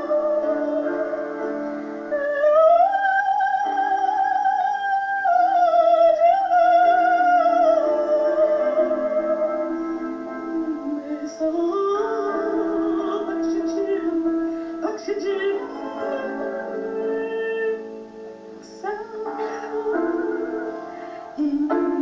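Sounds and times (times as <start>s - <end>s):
instrumental accompaniment chords: 0.0s - 22.0s
woman singing with vibrato: 0.0s - 22.0s.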